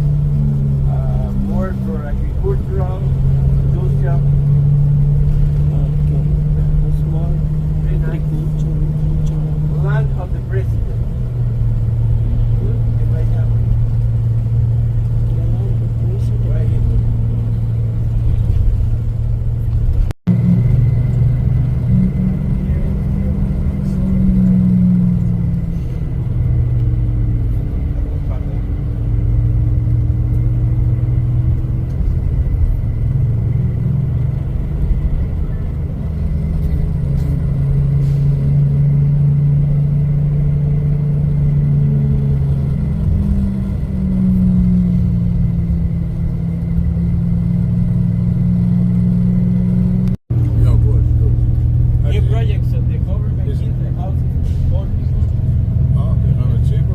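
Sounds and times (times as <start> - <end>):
bus engine: 0.0 - 56.9
road noise: 0.0 - 56.9.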